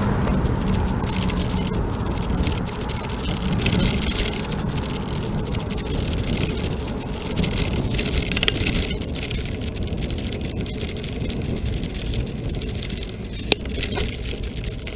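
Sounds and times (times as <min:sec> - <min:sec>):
bicycle tyre rumble: 0:00.0 - 0:14.9
wind buffeting microphone: 0:00.0 - 0:14.9.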